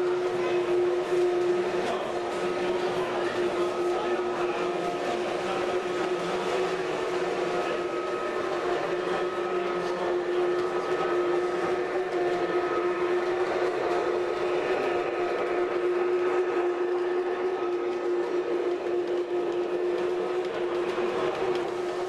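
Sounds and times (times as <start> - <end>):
model train motor hum: 0.0 - 22.0
train rolling noise: 0.0 - 22.0.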